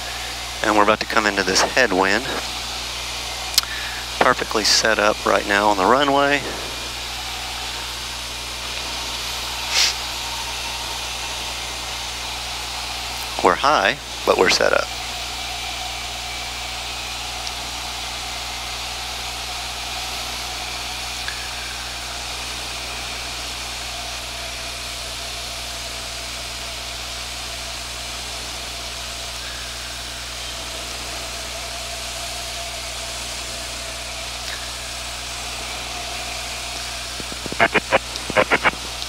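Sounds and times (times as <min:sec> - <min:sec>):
aircraft engine and propeller: 0:00.0 - 0:26.9, 0:27.5 - 0:31.9
cabin air noise hiss: 0:00.0 - 0:39.0.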